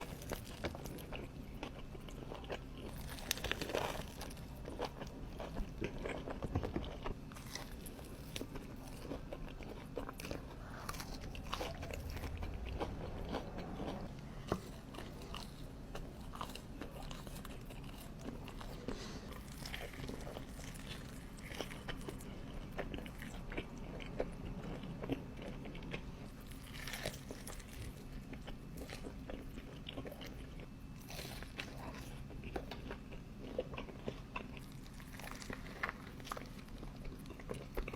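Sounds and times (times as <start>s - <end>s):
crunchy bites and chewing: 0.0s - 37.9s.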